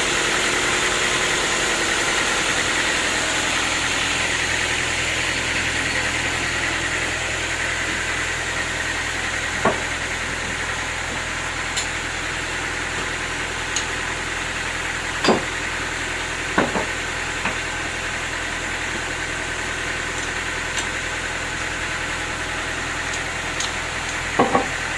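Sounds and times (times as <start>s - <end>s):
sawmill machinery running: 0.0s - 24.9s.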